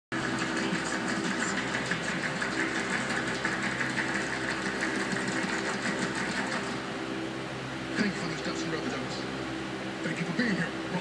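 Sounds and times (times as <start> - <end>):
buzzing mechanical hum: 0.1 - 11.0.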